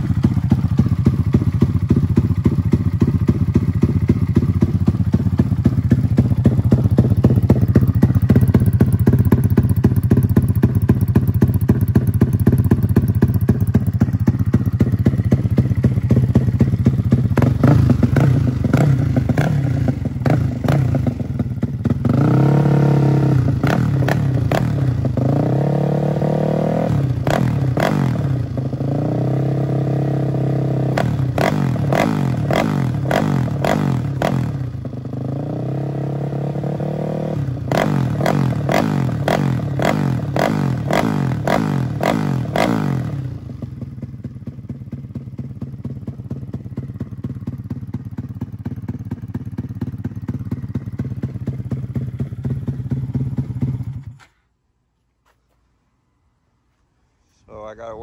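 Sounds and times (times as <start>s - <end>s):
motorcycle engine idling and revving: 0.0s - 54.6s.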